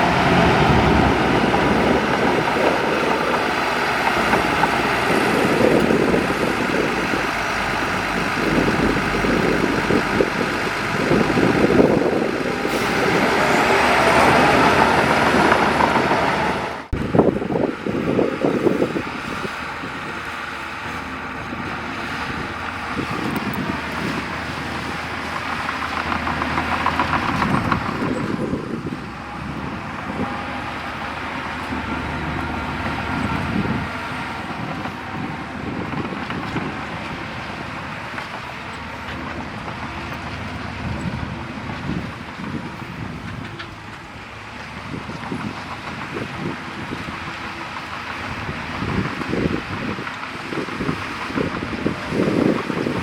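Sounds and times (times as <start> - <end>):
diesel machinery engine running: 0.0 - 53.0.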